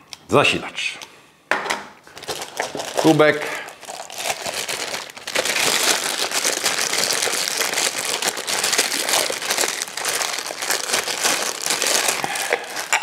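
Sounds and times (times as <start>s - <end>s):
plastic bag crinkling: 2.1s - 13.0s.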